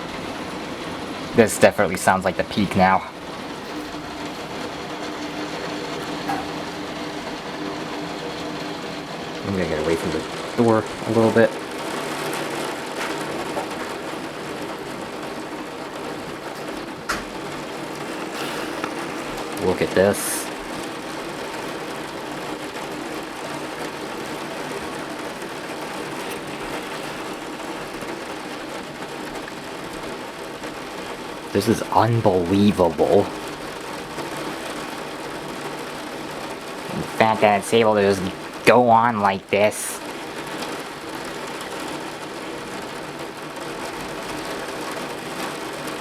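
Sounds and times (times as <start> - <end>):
torrential rain: 0.0 - 46.0
water pouring over gutters: 0.0 - 46.0.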